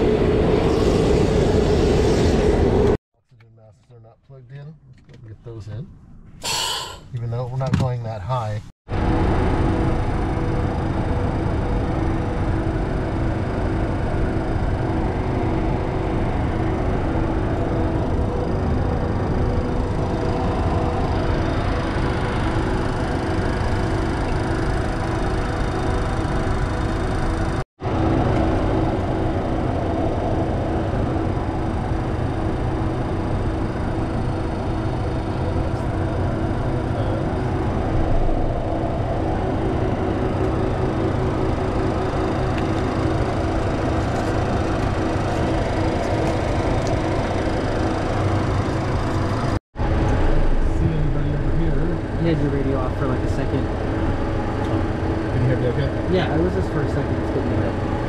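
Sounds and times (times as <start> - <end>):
jet engines running: 0.0 - 3.0, 8.1 - 58.0.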